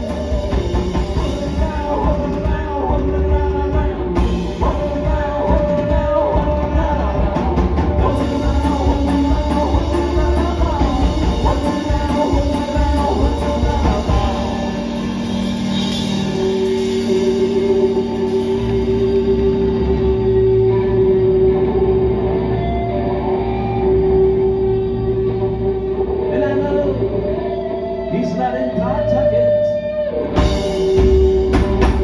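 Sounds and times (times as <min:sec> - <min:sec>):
drums: 0:00.0 - 0:32.0
electric guitar: 0:00.0 - 0:32.0.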